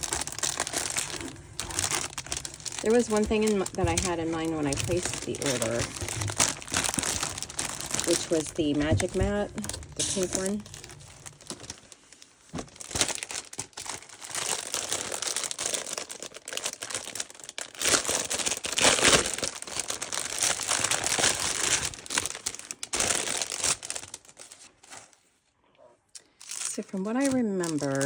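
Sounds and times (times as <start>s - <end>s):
packaging crinkling and rustling: 0.0s - 25.3s, 26.2s - 28.0s.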